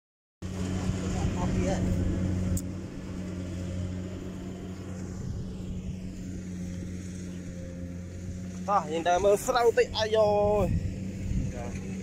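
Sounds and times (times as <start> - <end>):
combine harvester engine droning: 0.4 - 12.0.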